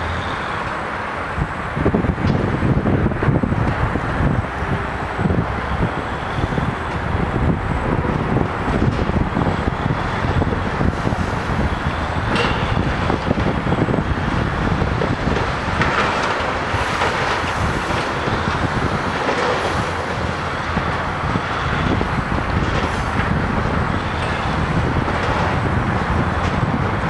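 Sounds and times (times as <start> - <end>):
crane diesel engine: 0.0 - 27.0
highway traffic noise: 0.0 - 27.0
wind buffeting microphone: 0.0 - 27.0.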